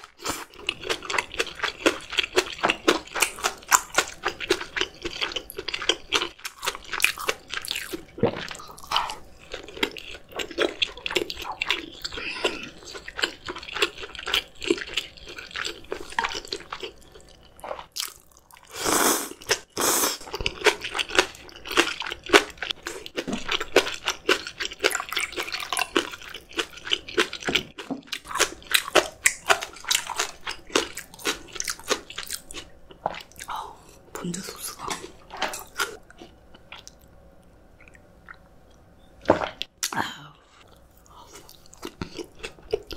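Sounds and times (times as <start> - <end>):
wet chewing and crunching: 0.0 - 37.2, 40.7 - 42.9.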